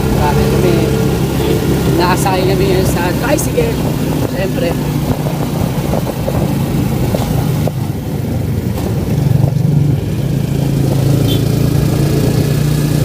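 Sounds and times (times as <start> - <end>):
motorcycle engine hum: 0.0 - 13.0.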